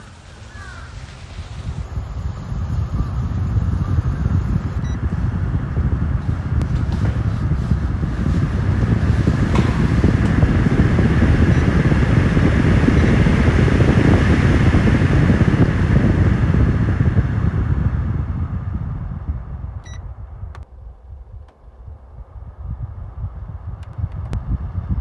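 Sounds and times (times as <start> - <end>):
loud low rumbling noise: 1.6 - 25.0.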